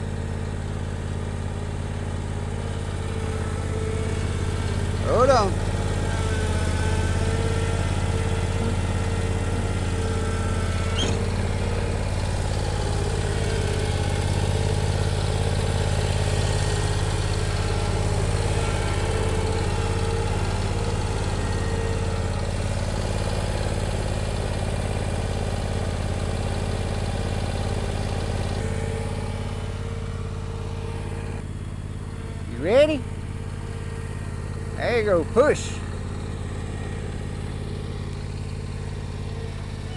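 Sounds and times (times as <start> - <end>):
lawnmower engine running: 0.0 - 39.9.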